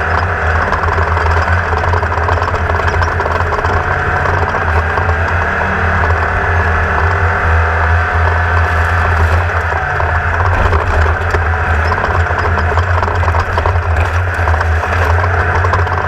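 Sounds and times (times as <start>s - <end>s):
buggy engine running: 0.0s - 16.0s
constant rattle: 0.0s - 16.0s.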